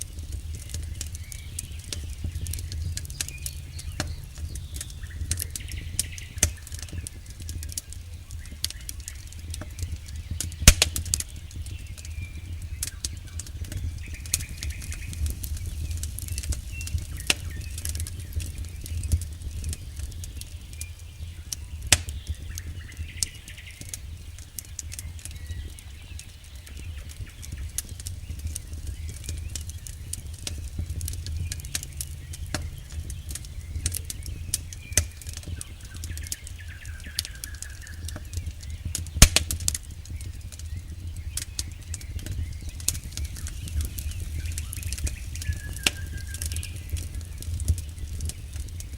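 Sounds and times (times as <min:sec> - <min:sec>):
campfire crackling and popping: 0:00.0 - 0:48.9
low steady rumble: 0:00.0 - 0:48.9.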